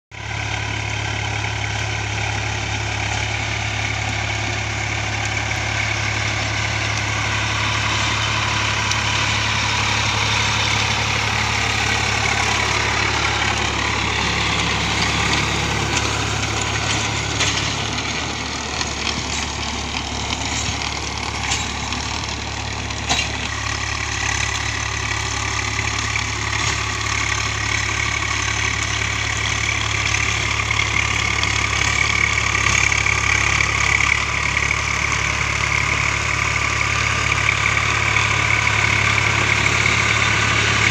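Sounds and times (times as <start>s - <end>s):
tractor diesel engine under load: 0.0s - 40.9s
rotavator churning soil: 2.7s - 40.9s.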